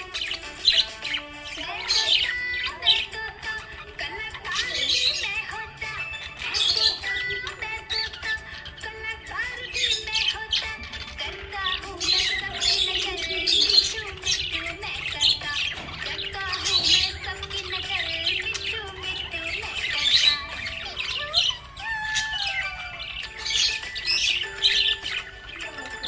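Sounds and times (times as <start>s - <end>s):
budgerigars chirping: 0.0s - 26.0s
slow background music: 0.0s - 26.0s.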